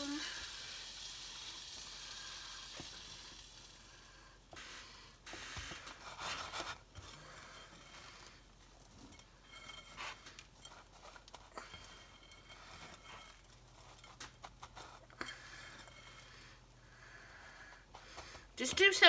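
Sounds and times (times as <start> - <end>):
faint skillet sizzle: 0.0 - 18.2.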